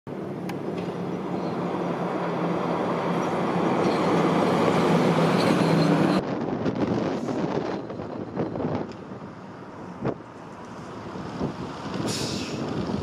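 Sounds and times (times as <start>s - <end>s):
distant truck engine: 0.1s - 13.0s
truck diesel engine passing: 0.1s - 13.0s
wind buffeting microphone: 1.2s - 13.0s.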